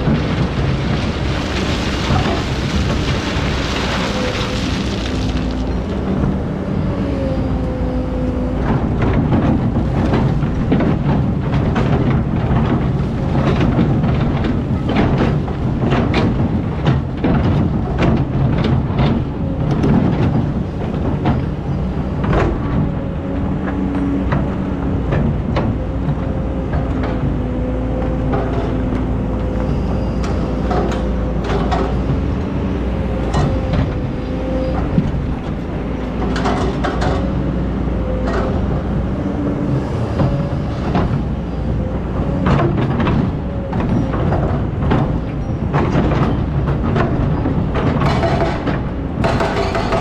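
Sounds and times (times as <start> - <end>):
machine knocks and clanks: 8.6 - 27.4, 28.0 - 50.0.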